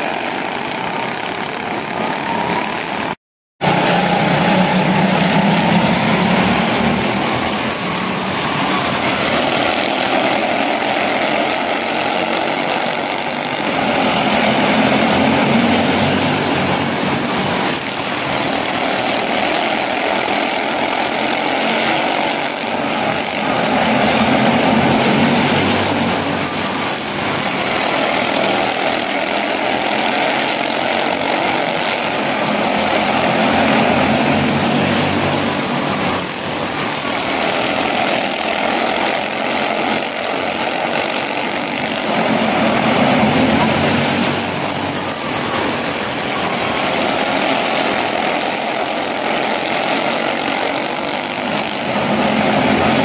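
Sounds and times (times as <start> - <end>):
small race car engines buzzing: 0.0 - 53.0.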